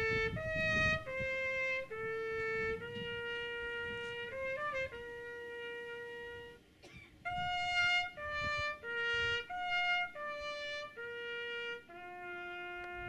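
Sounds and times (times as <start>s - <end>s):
solo trumpet playing slow tune: 0.0s - 13.0s.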